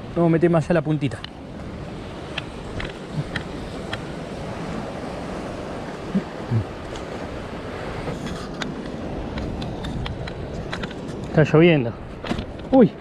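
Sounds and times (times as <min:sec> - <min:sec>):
surf washing against rocks: 0:00.0 - 0:13.0
wind buffeting microphone: 0:00.9 - 0:13.0.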